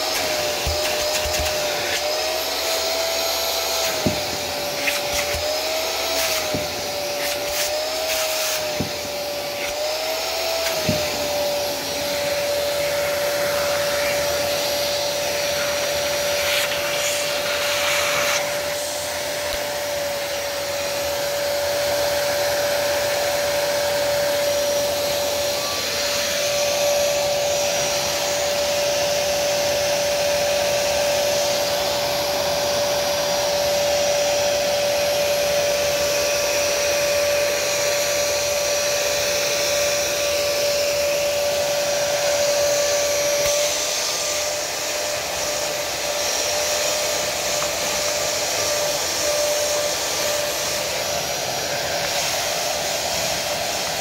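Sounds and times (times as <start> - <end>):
vacuum suction motor whining: 0.0 - 54.0.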